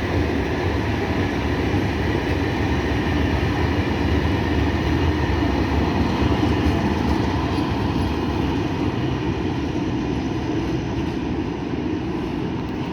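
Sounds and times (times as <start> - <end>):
freight train rumbling past: 0.0 - 12.9.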